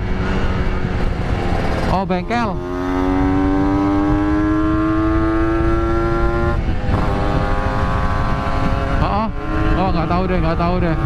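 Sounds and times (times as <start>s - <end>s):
motorcycle engine accelerating: 0.0s - 11.0s
wind rumble on microphone: 0.0s - 11.0s.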